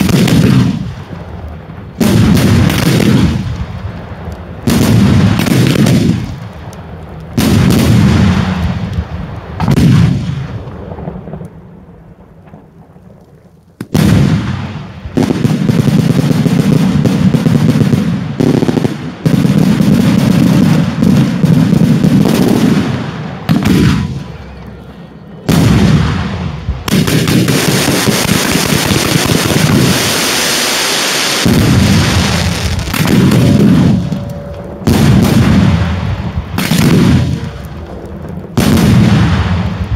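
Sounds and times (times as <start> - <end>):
fireworks bangs and booms: 0.0 - 39.9.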